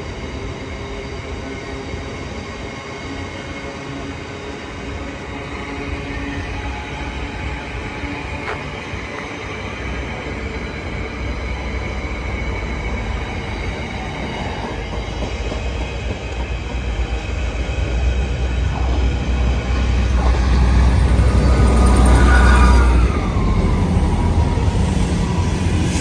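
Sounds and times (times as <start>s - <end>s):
train rumbling by: 0.0s - 26.0s.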